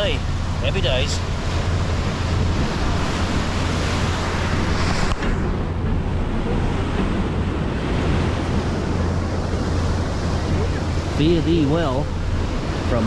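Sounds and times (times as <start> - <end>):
low engine hum: 0.0 - 13.0
water rushing along hull: 0.0 - 13.0
wind buffeting microphone: 0.0 - 13.0.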